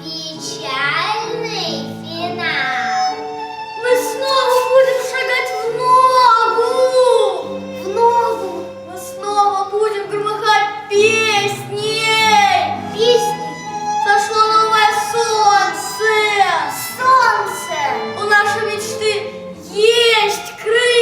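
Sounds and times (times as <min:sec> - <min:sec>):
instrumental accompaniment: 0:00.0 - 0:21.0
children singing: 0:02.3 - 0:21.0.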